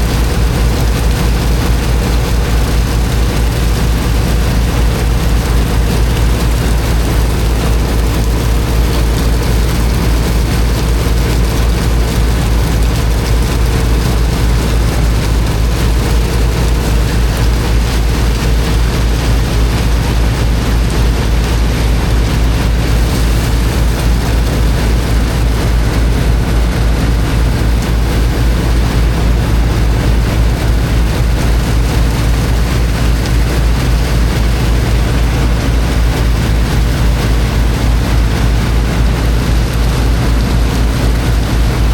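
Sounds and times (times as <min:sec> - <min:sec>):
water jet blasting into sand: 0:00.0 - 0:41.9
water pump engine rumbling: 0:00.0 - 0:41.9.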